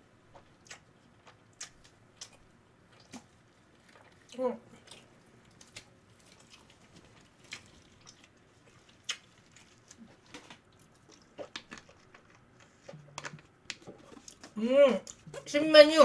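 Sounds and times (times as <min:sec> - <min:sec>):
mouth clicks and smacks chewing: 0:00.4 - 0:14.5.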